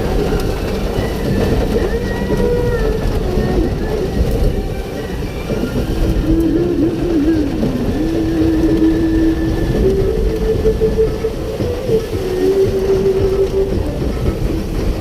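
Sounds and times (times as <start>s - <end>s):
vehicle rumble and road noise: 0.0s - 15.0s.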